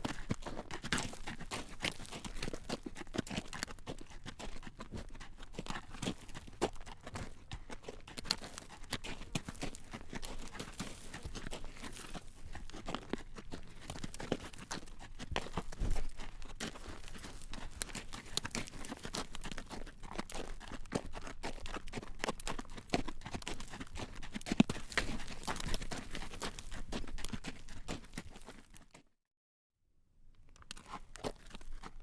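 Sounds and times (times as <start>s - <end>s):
horse hooves clip-clopping on road: 0.0s - 29.0s, 30.7s - 32.0s.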